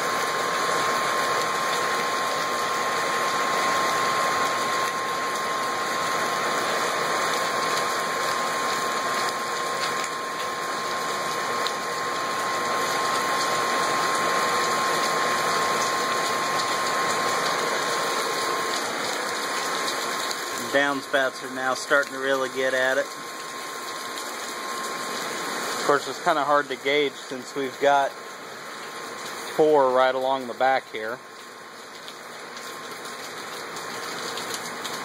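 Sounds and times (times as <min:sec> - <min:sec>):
water running in downspouts: 0:00.0 - 0:35.0.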